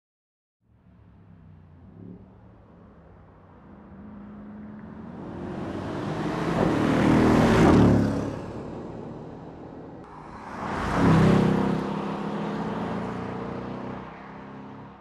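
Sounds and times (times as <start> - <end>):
car engines passing at speed: 0.7 - 15.0.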